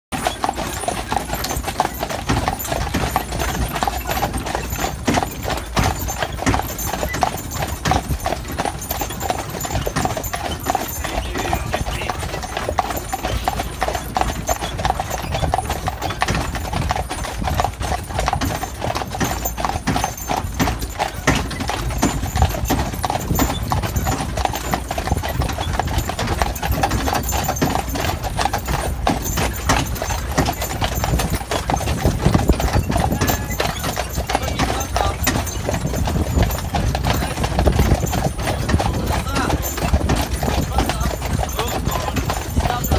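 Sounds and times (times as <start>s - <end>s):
horse hooves clip-clopping on pavement: 0.1s - 42.9s.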